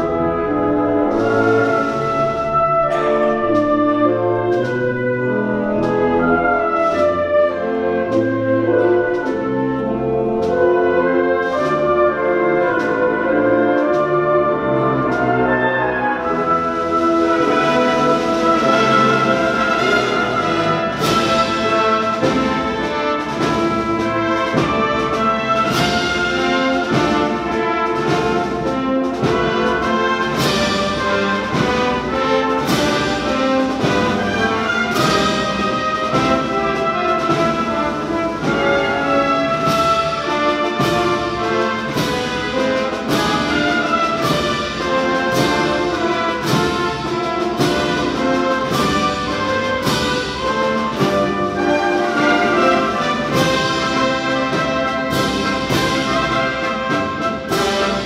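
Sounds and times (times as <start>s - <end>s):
wind band playing processional march: 0.0s - 58.0s.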